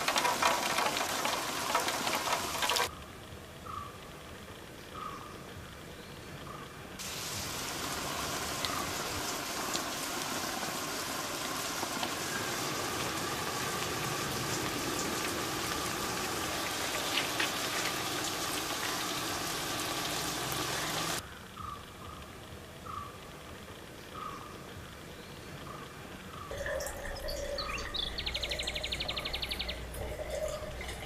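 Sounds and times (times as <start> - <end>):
steady rain falling: 0.0 - 4.6, 7.0 - 21.2, 24.6 - 31.0.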